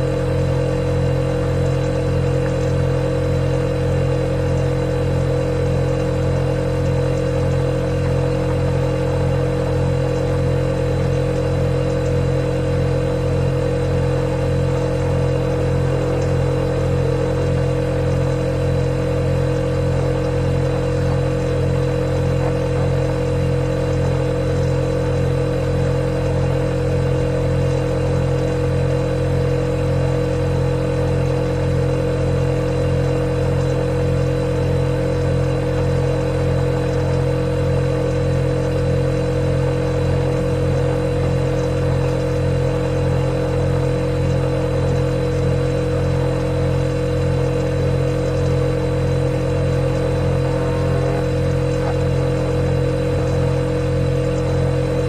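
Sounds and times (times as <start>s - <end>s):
refrigerator hum: 0.0s - 55.0s.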